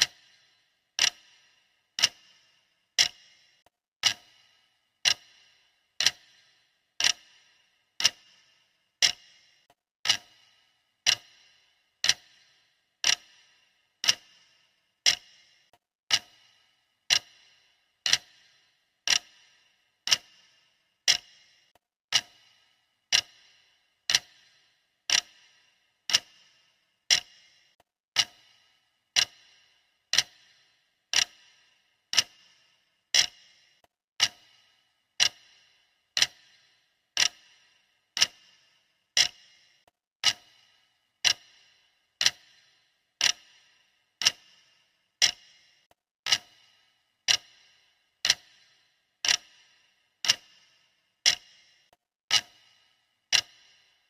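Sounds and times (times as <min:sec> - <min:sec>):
clock ticking with short ring: 0:00.0 - 0:54.0.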